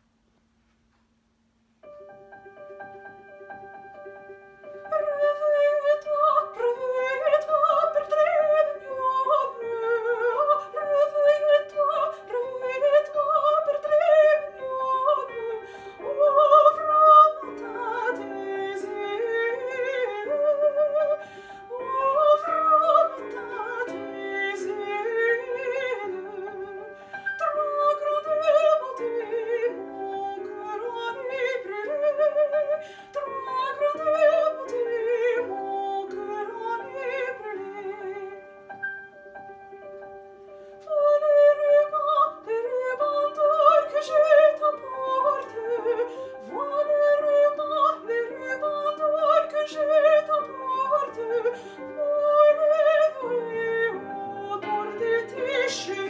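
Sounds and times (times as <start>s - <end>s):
piano accompaniment: 1.6s - 56.0s
soprano singing operatically: 4.6s - 38.7s, 40.6s - 56.0s.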